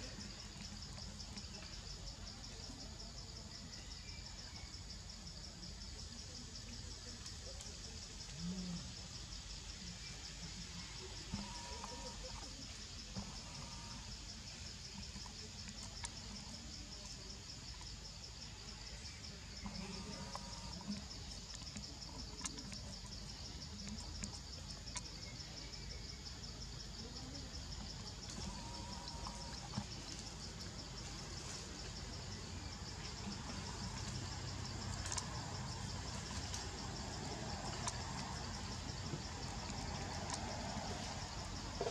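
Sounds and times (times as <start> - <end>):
insect chorus pulsing buzz: 0.0 - 41.9.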